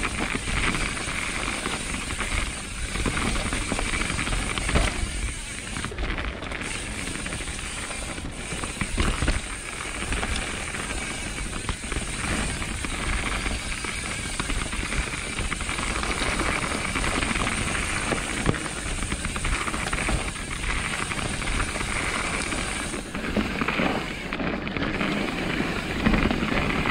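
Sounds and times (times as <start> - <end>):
bike rattling and knocking: 0.0 - 26.9
tyre noise on dirt trail: 0.0 - 26.9.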